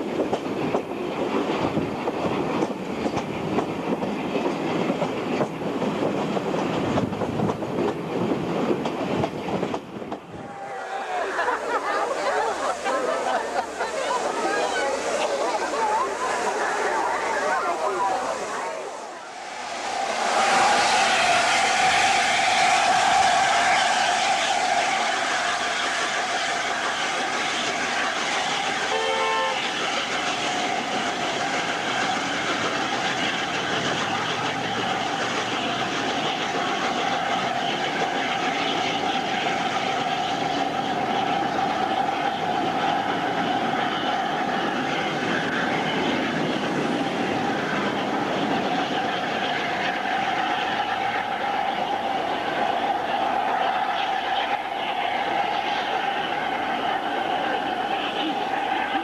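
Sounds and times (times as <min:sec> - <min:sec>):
train running on rails: 0:00.0 - 0:59.0.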